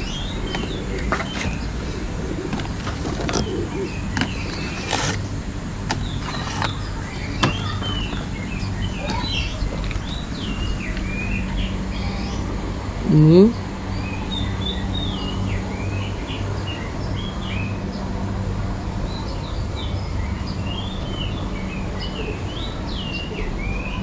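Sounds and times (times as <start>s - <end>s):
small birds chirping: 0.0s - 18.4s, 19.0s - 24.0s
steady low hum: 0.0s - 24.0s.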